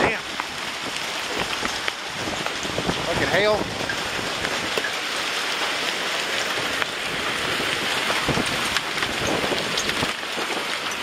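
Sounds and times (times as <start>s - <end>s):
hail and rain hissing: 0.0s - 11.0s
hailstones ticking on a surface: 0.0s - 11.0s.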